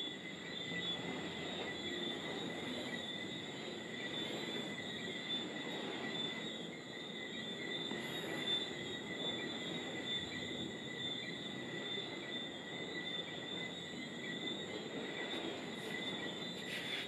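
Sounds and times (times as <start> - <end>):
insects trilling: 0.0 - 17.0
low rush of background noise: 0.0 - 17.0.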